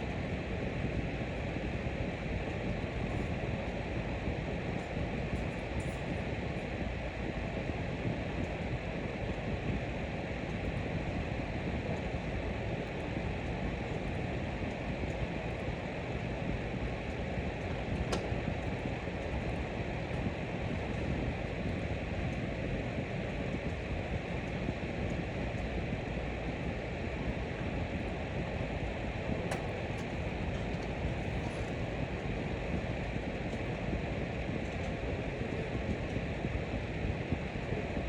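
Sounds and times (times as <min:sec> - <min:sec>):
electric fan running: 0:00.0 - 0:38.0.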